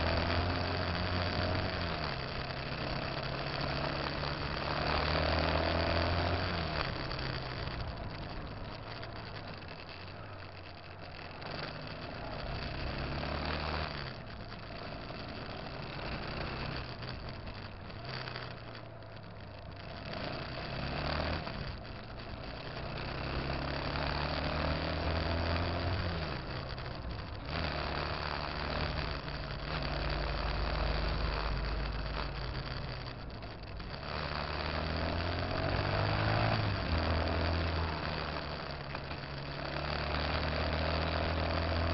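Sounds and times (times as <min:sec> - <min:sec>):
motorcycle engine revving: 0:00.0 - 0:41.9
wind and road noise: 0:00.0 - 0:41.9.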